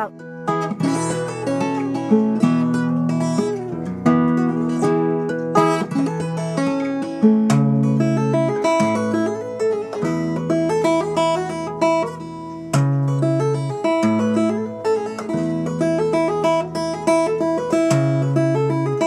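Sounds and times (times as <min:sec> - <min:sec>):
acoustic guitar with bass: 0:00.0 - 0:19.0.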